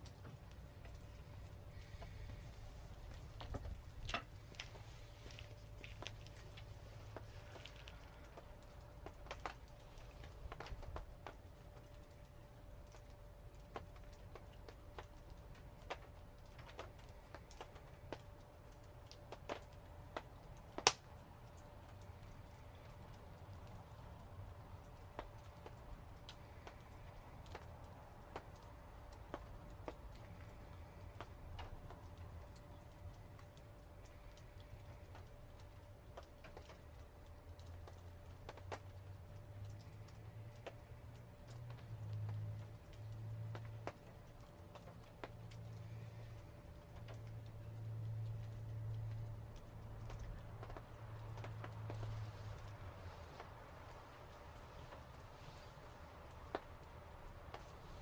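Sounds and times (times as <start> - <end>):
faint steady hum: 0.0 - 58.0
wood fire crackling: 0.0 - 58.0.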